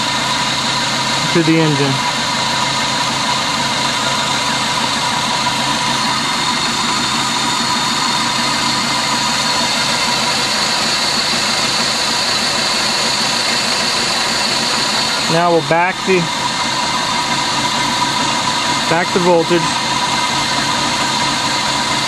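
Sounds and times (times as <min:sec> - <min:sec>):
car engine idling and chugging: 0:00.0 - 0:22.0.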